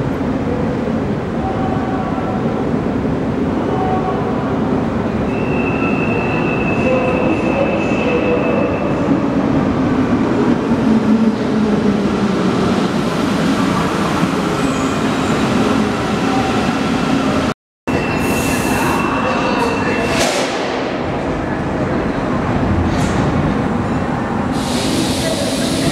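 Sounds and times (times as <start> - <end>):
metro train running noise: 0.0 - 25.9.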